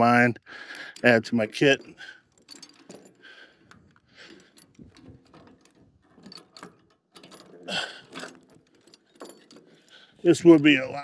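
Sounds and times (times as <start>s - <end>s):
metal clicking and rattling: 0.7s - 11.0s.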